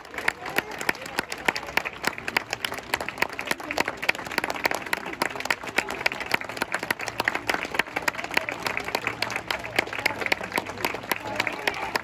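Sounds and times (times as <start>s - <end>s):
crowd clapping: 0.0s - 12.0s
crowd voices: 0.0s - 12.0s.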